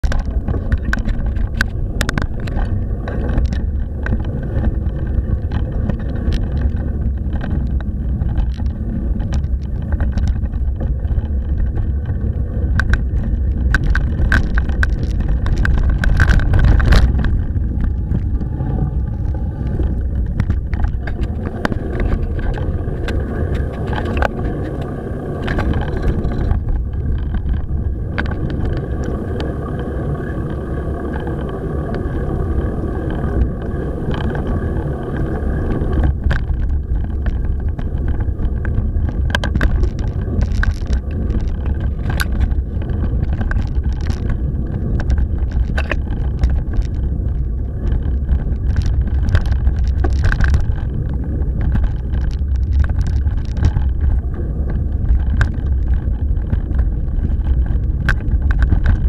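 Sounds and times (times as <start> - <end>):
bike rattling and knocking: 0.0 - 29.6, 35.6 - 59.0
low rumble of bike tyres: 0.0 - 59.0
wind on the microphone: 0.0 - 59.0.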